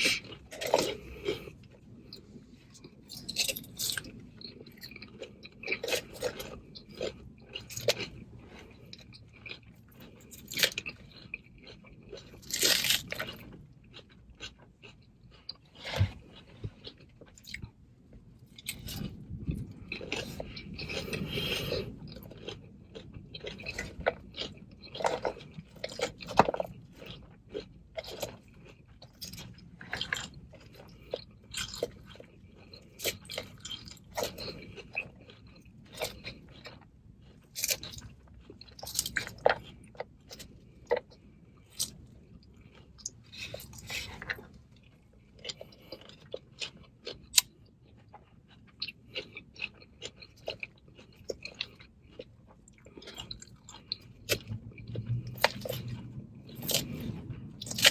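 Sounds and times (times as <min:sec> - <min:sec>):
salad chewing crunches: 0:00.0 - 0:17.8, 0:18.4 - 0:57.9.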